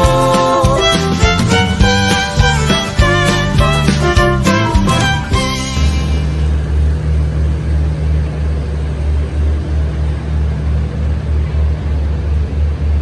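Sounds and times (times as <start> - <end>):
vehicle rumbling in motion: 0.0 - 13.0.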